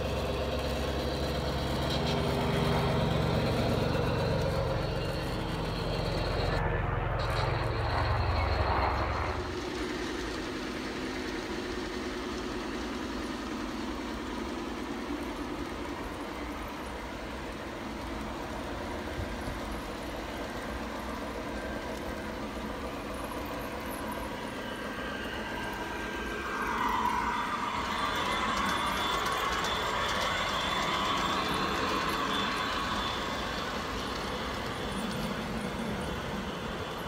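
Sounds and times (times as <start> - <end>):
model train wheels rumbling: 0.0 - 6.6, 7.2 - 37.0
model train whine: 0.0 - 37.0.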